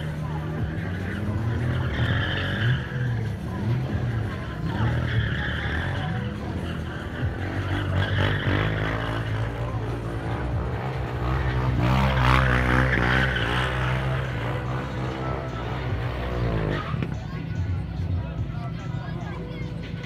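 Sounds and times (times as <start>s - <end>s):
quad bike engine running hard: 0.0s - 20.0s
tyres skidding on asphalt: 0.0s - 20.0s.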